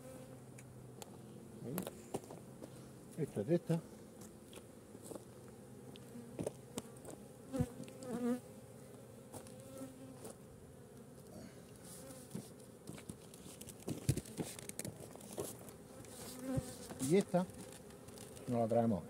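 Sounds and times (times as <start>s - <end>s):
bee flying past: 0.0s - 19.0s
honey bees buzzing: 0.0s - 19.0s.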